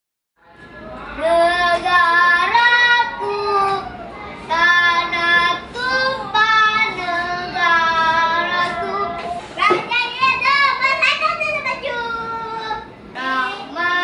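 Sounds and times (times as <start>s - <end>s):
child singing: 1.2s - 14.0s.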